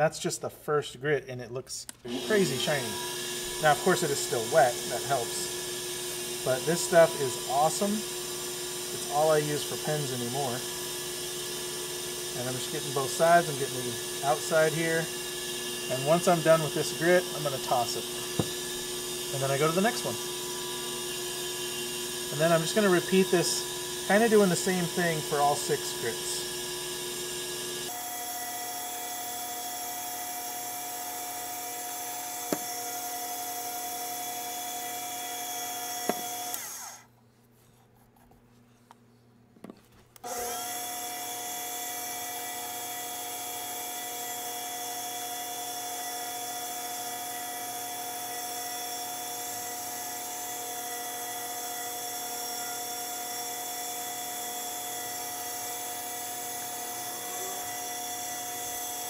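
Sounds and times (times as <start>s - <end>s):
lathe motor whining: 2.0s - 37.1s, 40.2s - 59.0s.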